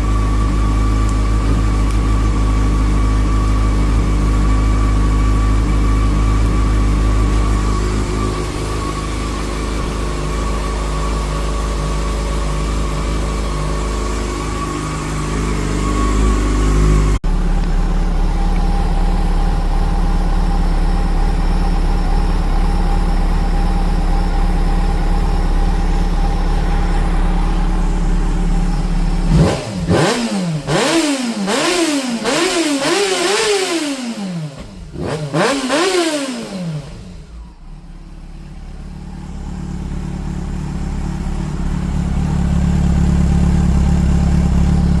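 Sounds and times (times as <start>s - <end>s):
motorcycle engine idling and revving: 0.0s - 45.0s.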